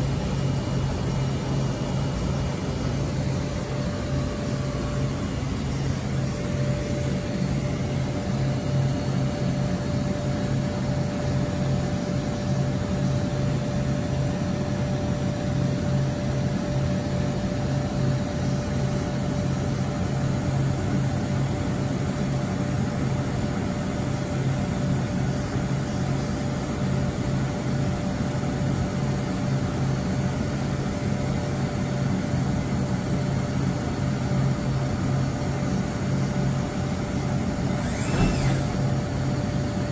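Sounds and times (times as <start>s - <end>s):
machine hum with whine: 0.0s - 39.9s.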